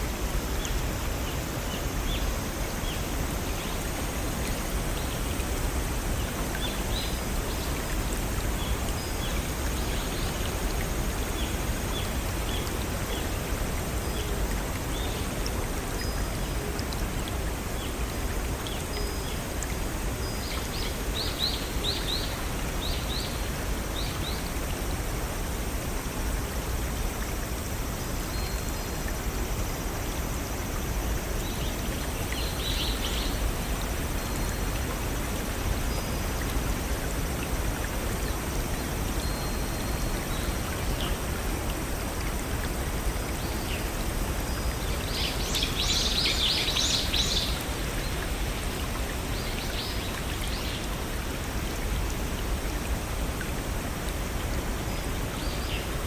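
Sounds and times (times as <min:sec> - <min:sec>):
waterfall and brook flowing: 0:00.0 - 0:56.0.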